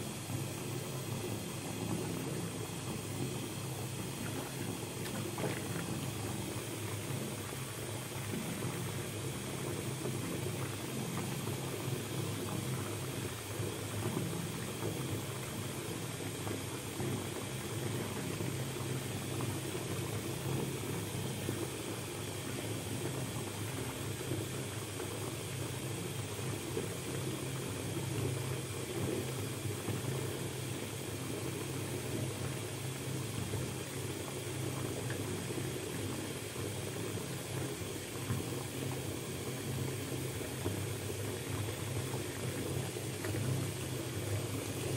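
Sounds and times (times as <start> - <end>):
water running into bathtub: 0.0 - 44.9.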